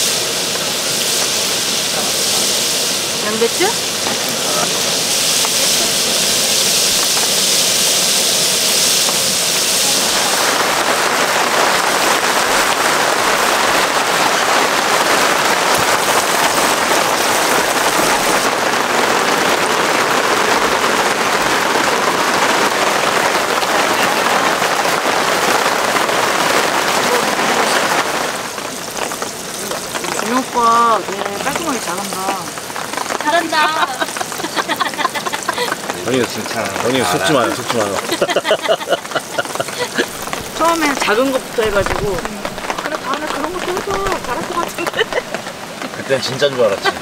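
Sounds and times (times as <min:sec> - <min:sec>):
heavy rain on a tarp: 0:00.0 - 0:47.0.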